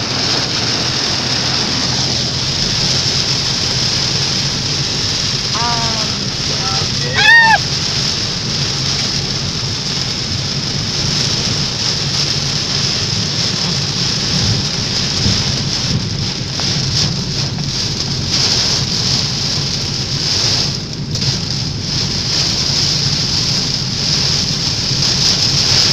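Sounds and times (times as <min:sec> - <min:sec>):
low rumble: 0:00.0 - 0:25.8
heavy rain on car roof: 0:00.0 - 0:25.9.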